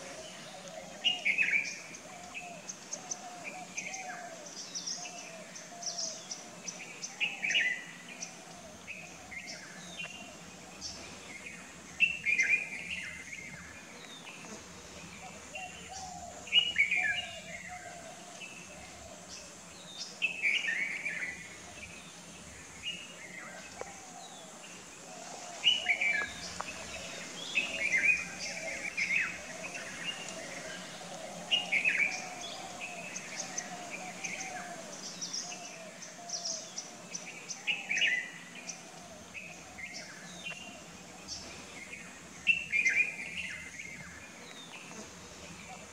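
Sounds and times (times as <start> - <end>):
birds chirping: 0.0 - 45.9
steady high hiss: 0.0 - 45.9.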